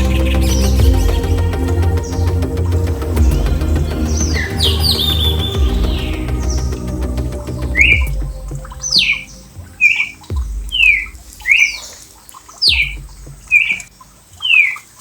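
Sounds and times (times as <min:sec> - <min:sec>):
low thumps: 0:00.0 - 0:14.2
bird calling: 0:00.0 - 0:15.0.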